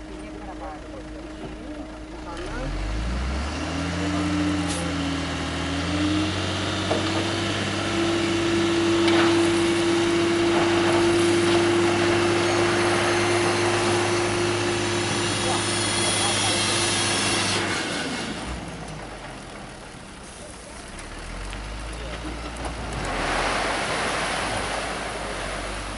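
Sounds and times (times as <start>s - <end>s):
diesel engine at raised revs: 0.0s - 25.9s.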